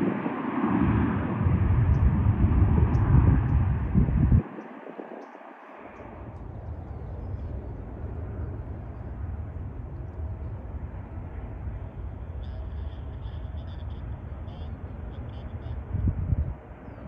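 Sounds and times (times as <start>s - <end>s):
distant jet aircraft rumble: 0.0s - 17.0s.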